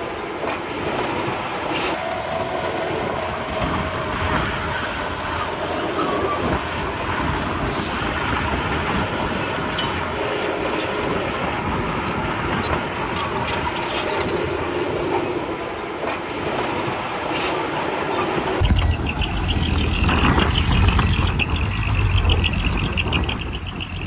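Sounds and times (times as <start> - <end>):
bulldozer diesel engine: 0.0 - 24.0
steel tracks clanking: 0.0 - 24.0.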